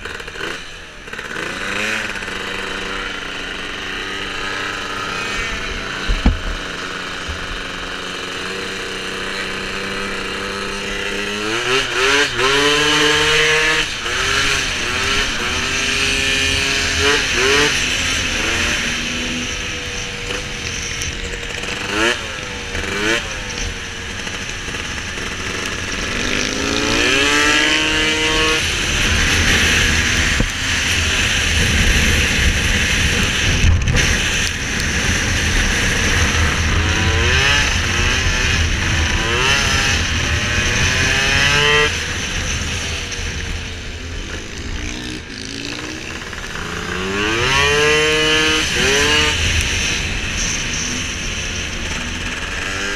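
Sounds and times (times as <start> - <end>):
scooter engine revving: 0.0 - 52.9.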